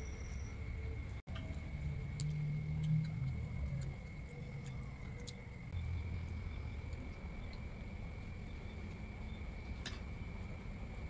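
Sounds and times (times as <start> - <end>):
faint low rumble: 0.0 - 11.0
insects chirring: 0.0 - 11.0.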